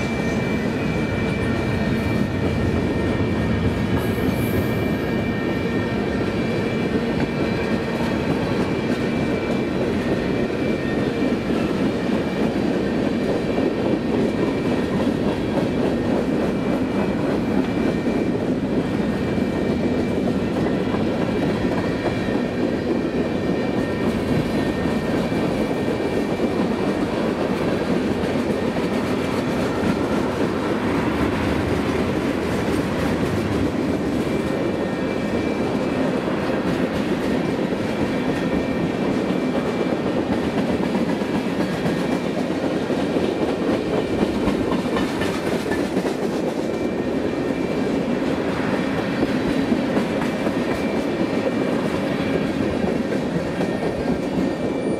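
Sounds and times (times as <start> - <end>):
freight train wheels clattering on rails: 0.0 - 54.9.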